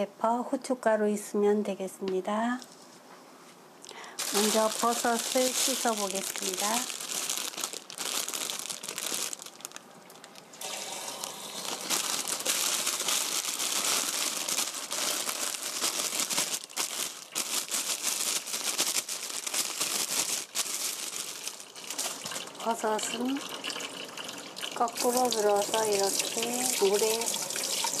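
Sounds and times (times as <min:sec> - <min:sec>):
plastic bag crinkling: 0:03.9 - 0:23.7, 0:24.8 - 0:28.0.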